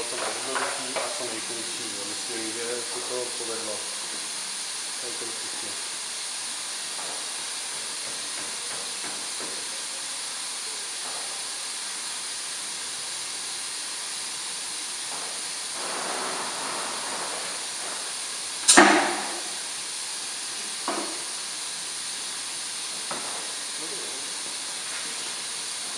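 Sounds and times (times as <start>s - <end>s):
bottle filler hissing: 0.0s - 25.9s.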